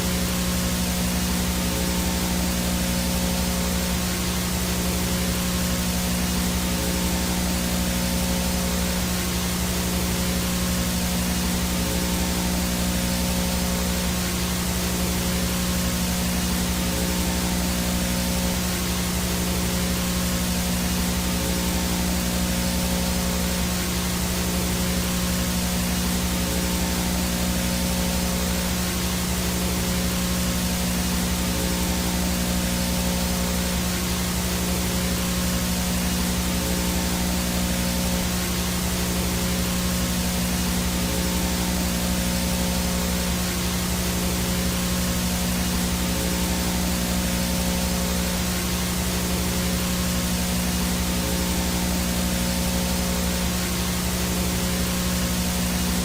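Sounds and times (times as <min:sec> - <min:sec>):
high-pitched whine: 0:00.0 - 0:56.0
low electrical hum: 0:00.0 - 0:56.0
static hiss: 0:00.0 - 0:56.0.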